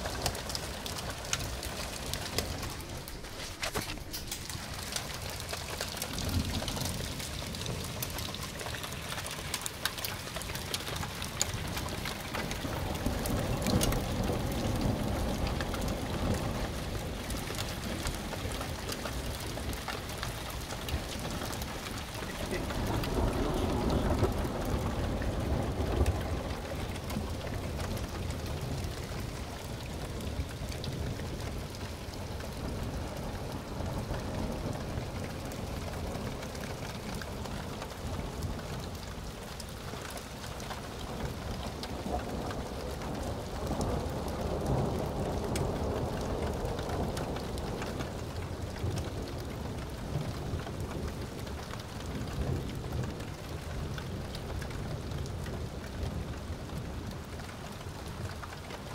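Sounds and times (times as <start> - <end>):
rain falling: 0.0 - 58.9
thunder rumbling: 0.0 - 58.9.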